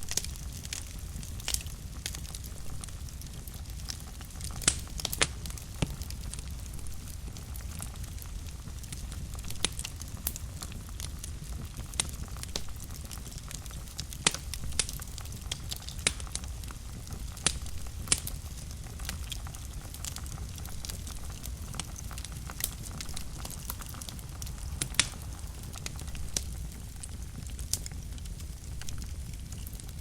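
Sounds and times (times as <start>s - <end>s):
fire crackling in fireplace: 0.0s - 30.0s
sharp fire pops: 0.0s - 30.0s.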